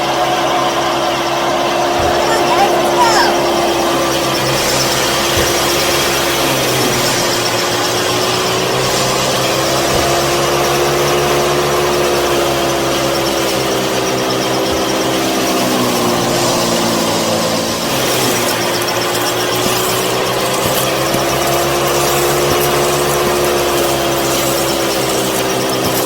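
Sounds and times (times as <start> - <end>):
small motor whining hum: 0.0 - 26.0.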